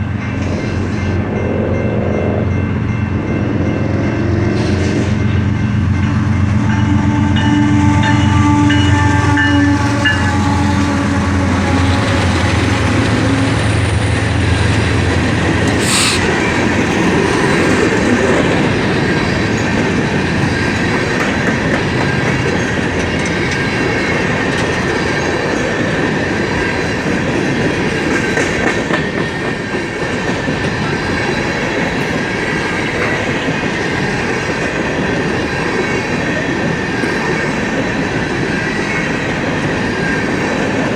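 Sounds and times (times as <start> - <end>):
droning train engine: 0.0 - 40.9
train wheels clacking on rail joints: 7.4 - 40.9.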